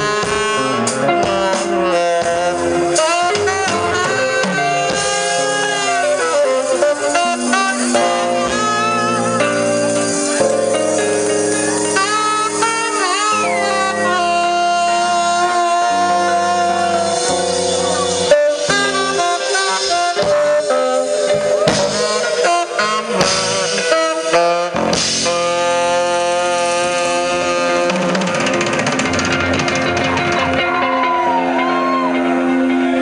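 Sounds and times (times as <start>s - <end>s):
funk jazz band playing: 0.0s - 33.0s.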